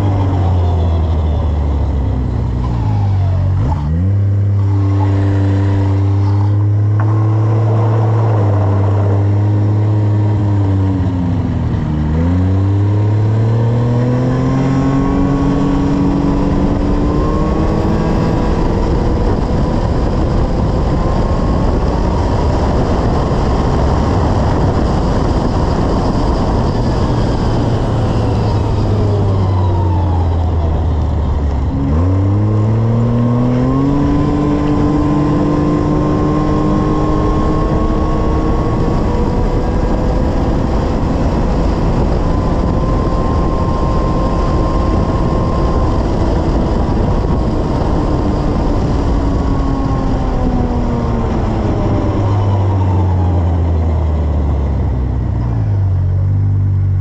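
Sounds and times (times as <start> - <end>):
snowmobile engine running: 0.0 - 57.0
steady rushing noise: 1.8 - 12.0, 14.9 - 53.3.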